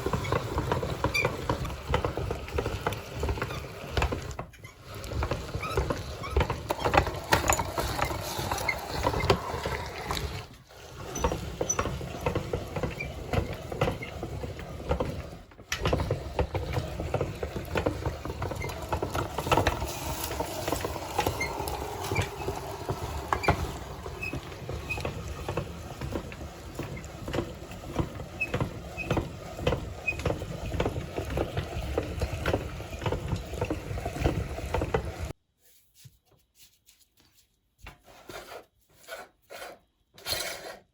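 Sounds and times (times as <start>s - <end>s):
meat grinder clicks and crackles: 0.0s - 35.3s.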